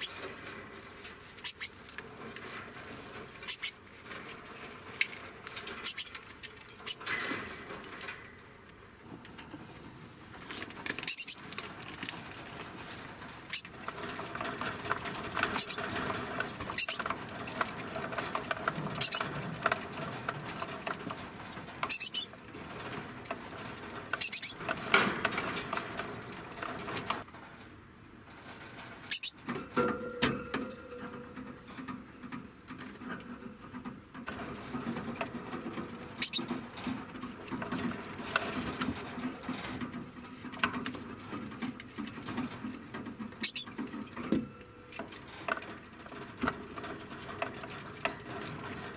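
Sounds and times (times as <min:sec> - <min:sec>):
rustling and pattering in cage: 0:00.0 - 0:48.9.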